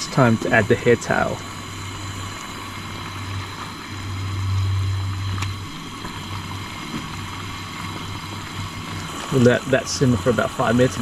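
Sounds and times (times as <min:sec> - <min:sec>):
faint hiss: 0:00.0 - 0:11.0
motorboat engine drone: 0:00.0 - 0:11.0.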